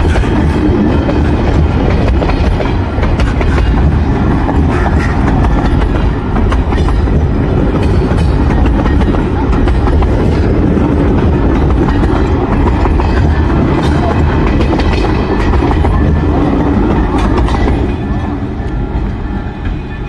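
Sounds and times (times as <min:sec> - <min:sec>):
train clacks and rattles: 0:00.0 - 0:20.0
train wheels rumbling on rail: 0:00.0 - 0:20.0.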